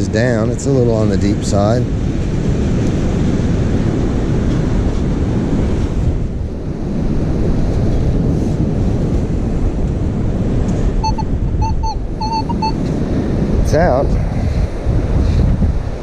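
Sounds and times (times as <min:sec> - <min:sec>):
beach surf: 0:00.0 - 0:16.0
wind buffeting the microphone: 0:00.0 - 0:16.0.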